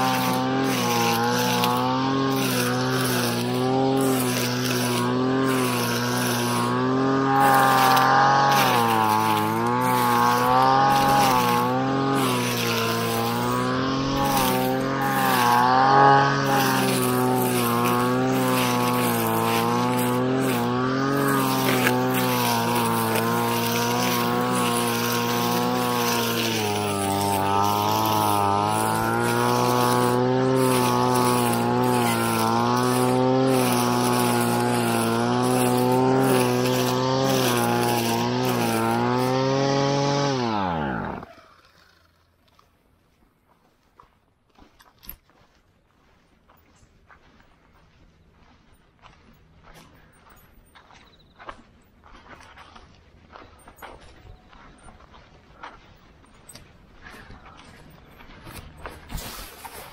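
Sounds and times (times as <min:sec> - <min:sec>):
brush cutter engine cutting grass: 0:00.0 - 0:43.1, 0:44.0 - 0:59.9.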